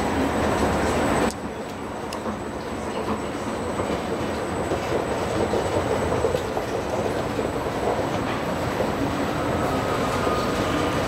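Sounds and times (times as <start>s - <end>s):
station concourse background noise: 0.0s - 11.0s.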